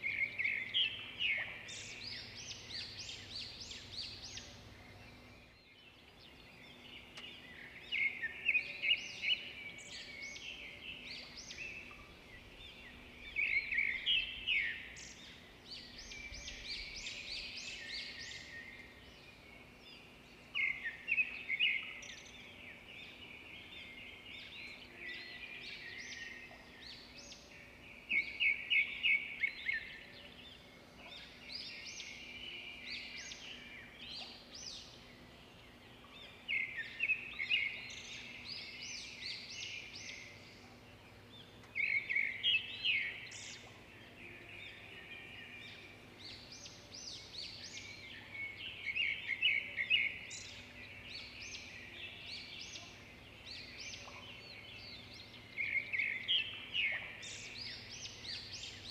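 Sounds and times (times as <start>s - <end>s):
birds chirping and trilling: 0.0s - 58.9s.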